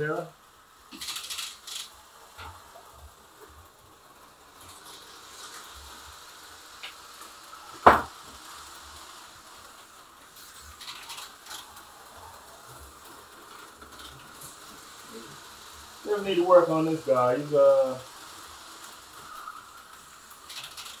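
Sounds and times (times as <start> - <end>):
slot car motor whir: 1.0 - 21.0.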